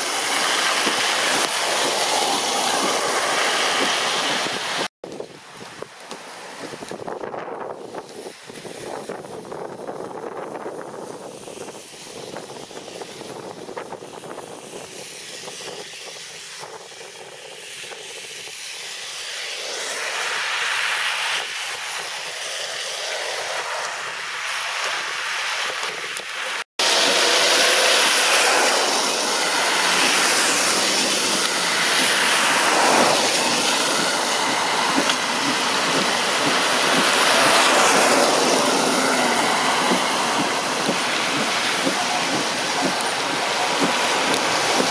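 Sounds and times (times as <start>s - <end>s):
car tyres splashing through water: 0.0s - 10.0s, 10.8s - 44.9s.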